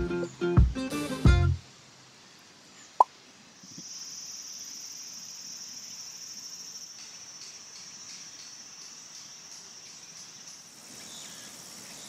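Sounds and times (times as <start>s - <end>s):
insects chirring: 1.7s - 12.0s.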